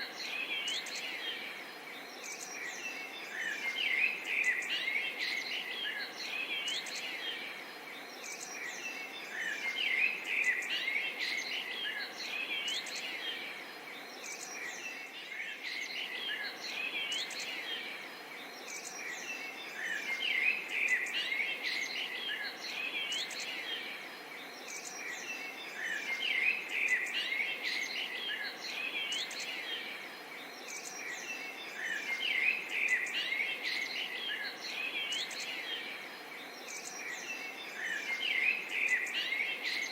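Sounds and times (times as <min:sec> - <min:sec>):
birds chirping: 0:00.0 - 0:39.9
steady background hiss: 0:00.0 - 0:39.9.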